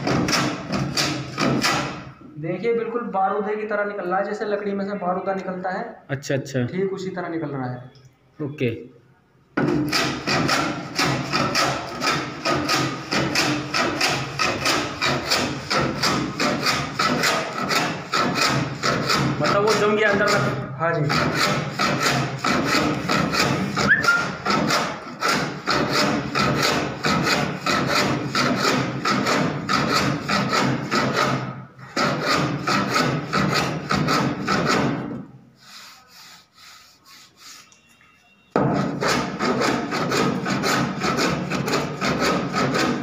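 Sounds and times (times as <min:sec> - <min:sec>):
hand tool scraping wood filler: 0:00.0 - 0:02.2, 0:09.6 - 0:37.9, 0:38.6 - 0:43.0.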